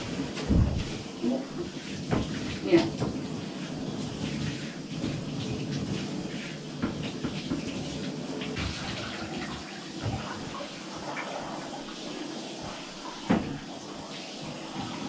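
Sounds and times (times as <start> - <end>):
shower water splashing: 0.0 - 15.0.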